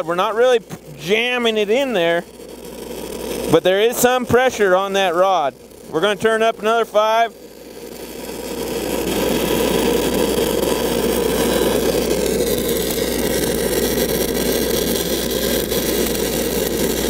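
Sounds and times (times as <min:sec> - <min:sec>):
welder engine hum: 0:00.0 - 0:17.0
welding arc crackle and hiss: 0:00.0 - 0:17.0.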